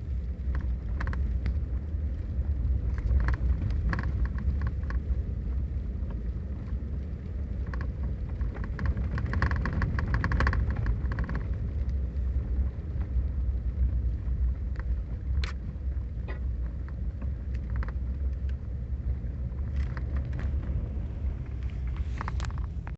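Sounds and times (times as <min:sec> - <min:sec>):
rain and ice pellets ticking: 0:00.0 - 0:22.9
wind rumbling on microphone: 0:00.0 - 0:22.9.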